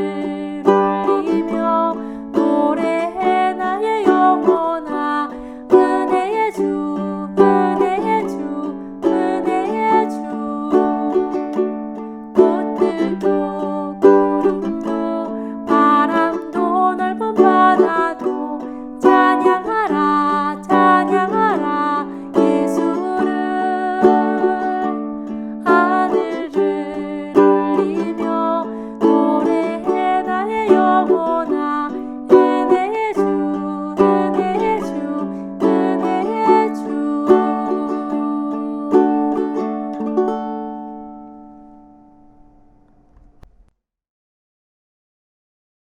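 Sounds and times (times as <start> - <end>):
ukulele strumming chords: 0.0 - 43.6.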